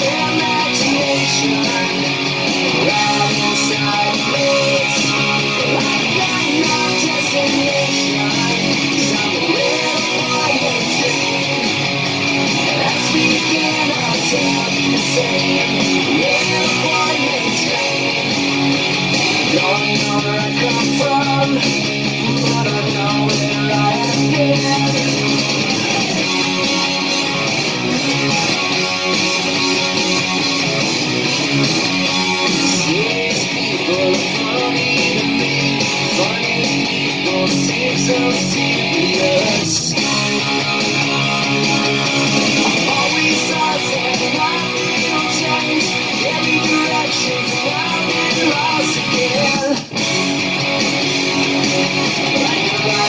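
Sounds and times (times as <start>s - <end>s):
electric guitar rock playing: 0.0s - 53.0s.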